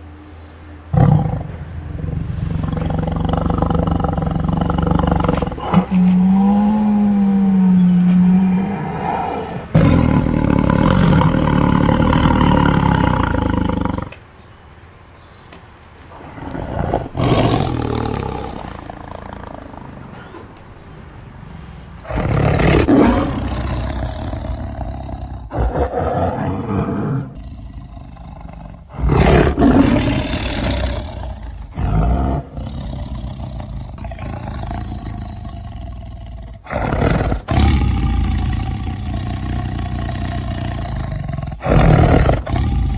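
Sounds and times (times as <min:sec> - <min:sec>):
tiger roaring and growling: 0:00.9 - 0:14.2, 0:16.1 - 0:42.9.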